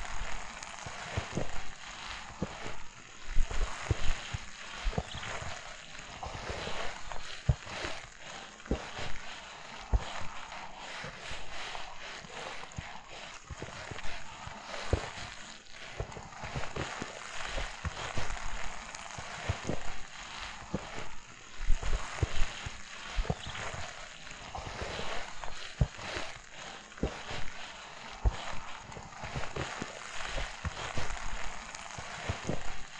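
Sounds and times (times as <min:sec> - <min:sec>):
footsteps crunching in snow: 0:00.0 - 0:32.9.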